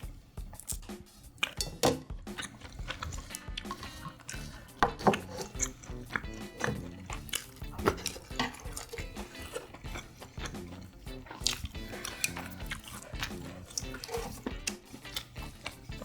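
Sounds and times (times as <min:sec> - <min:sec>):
soft background music: 0:00.0 - 0:16.0
utensils clinking on dishes: 0:00.0 - 0:16.0.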